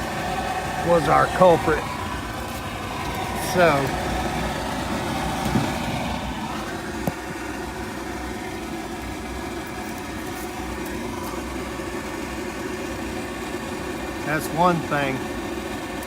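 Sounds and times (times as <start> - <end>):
gas heating unit humming: 0.0 - 16.0.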